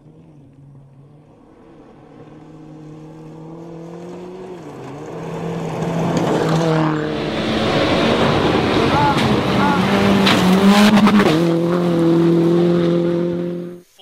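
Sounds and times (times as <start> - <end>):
rally car engine revving: 0.0 - 13.8.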